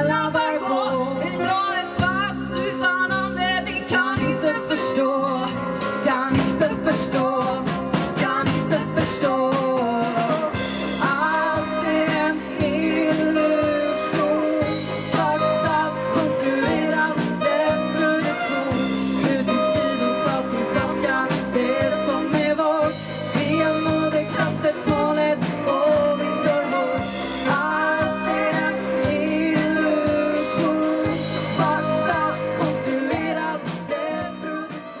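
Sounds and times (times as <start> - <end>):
live band playing: 0.0 - 35.0
woman singing: 0.0 - 35.0.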